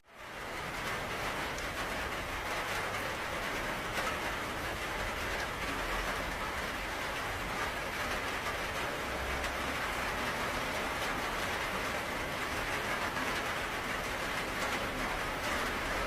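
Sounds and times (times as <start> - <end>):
heavy rain: 0.1 - 16.0.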